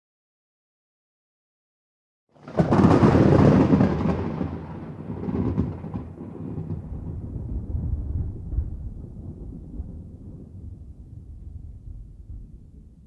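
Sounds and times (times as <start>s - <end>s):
thunder crack and rumbling: 2.4s - 13.0s.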